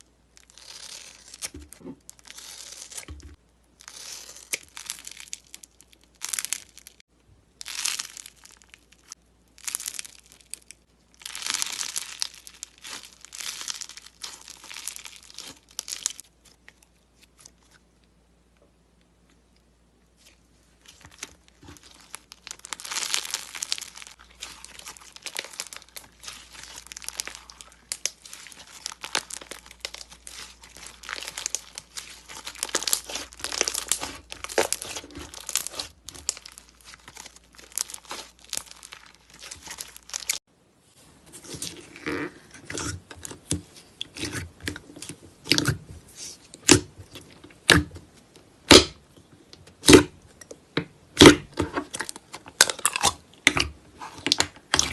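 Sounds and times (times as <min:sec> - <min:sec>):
slime crackling and crinkling: 0:00.0 - 0:18.2, 0:19.2 - 0:40.5, 0:41.1 - 0:54.9.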